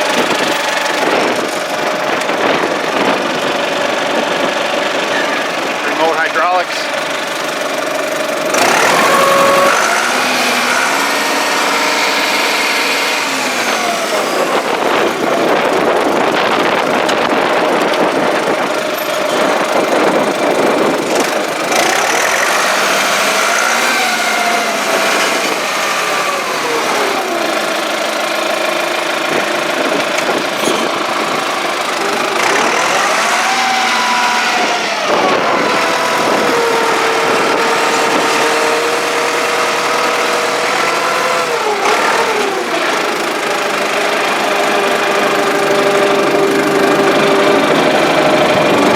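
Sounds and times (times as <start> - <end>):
tractor diesel engine revving: 0.0 - 48.9.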